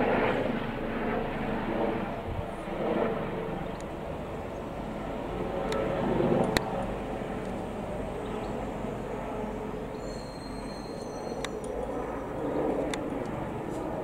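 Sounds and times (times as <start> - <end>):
helicopter rotor and engine drone: 0.0 - 14.0.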